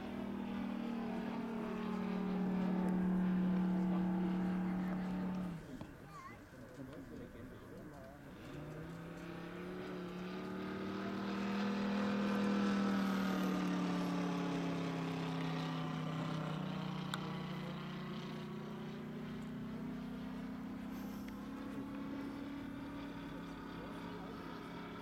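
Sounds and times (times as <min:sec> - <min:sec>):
model plane engine droning: 0:00.0 - 0:25.0.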